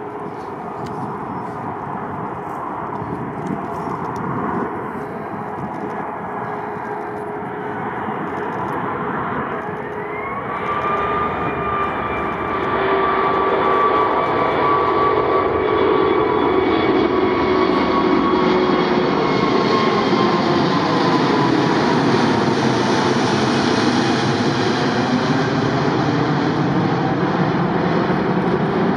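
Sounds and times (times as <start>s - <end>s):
jet airliner roar: 0.0s - 28.9s
jet engine whine: 0.0s - 28.9s.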